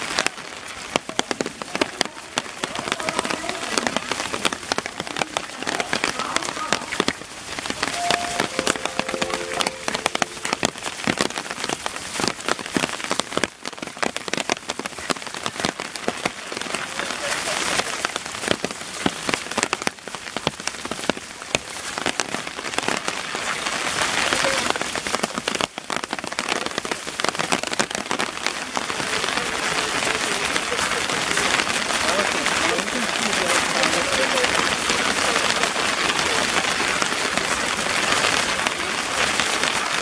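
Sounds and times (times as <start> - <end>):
heavy rain falling: 0.0 - 40.0
raindrop hits on microphone: 0.0 - 40.0.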